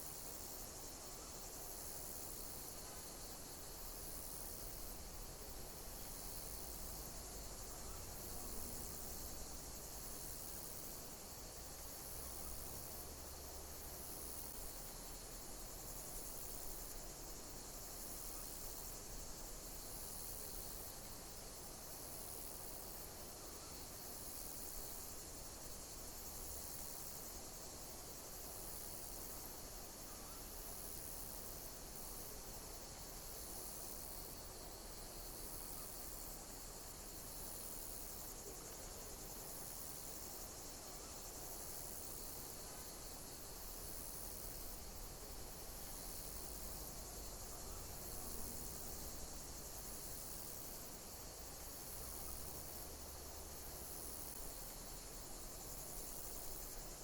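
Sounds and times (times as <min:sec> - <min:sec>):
insects chirping trill: 0:00.0 - 0:57.0
soft hiss: 0:00.0 - 0:57.0.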